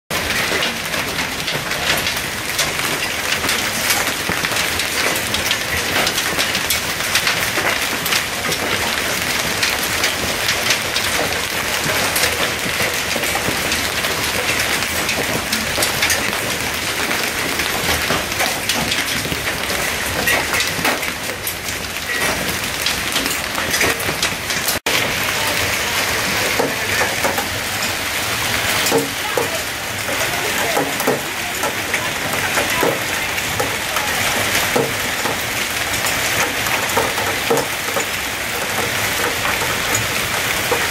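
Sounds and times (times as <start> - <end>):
hail and rain falling hard: 0.1 - 40.9.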